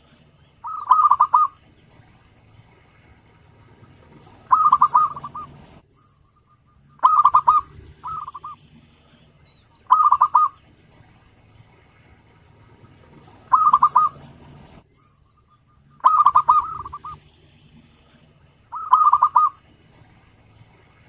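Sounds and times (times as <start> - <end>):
dove cooing: 0.0 - 9.2, 9.8 - 11.2, 12.1 - 20.1.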